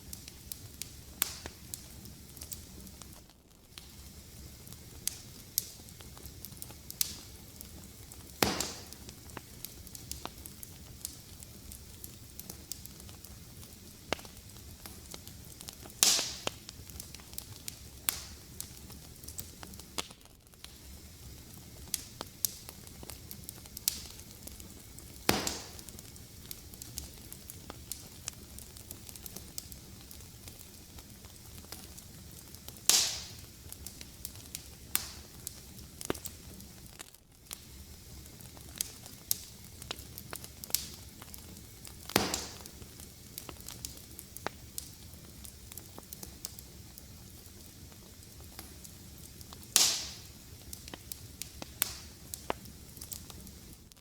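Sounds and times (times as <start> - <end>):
fire pops: 0.0 - 54.0
wood fire crackling: 0.0 - 54.0.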